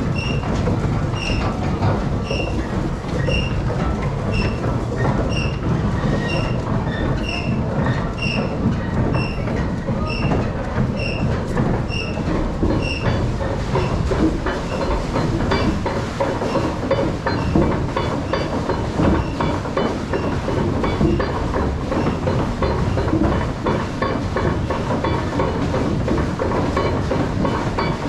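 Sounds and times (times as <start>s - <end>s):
mill gearing rumbling: 0.0s - 28.0s.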